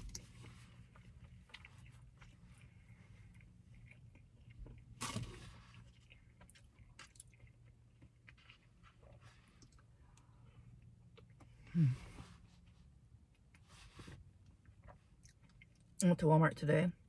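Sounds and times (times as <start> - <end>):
person chewing soup: 0.0 - 16.0
low steady hum: 0.0 - 17.0.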